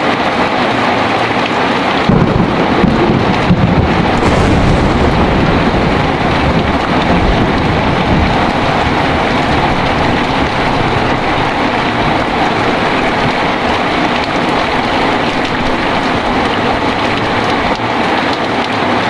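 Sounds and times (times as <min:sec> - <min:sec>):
heavy rain: 0:00.0 - 0:19.0
thunder rumbling: 0:00.5 - 0:18.3.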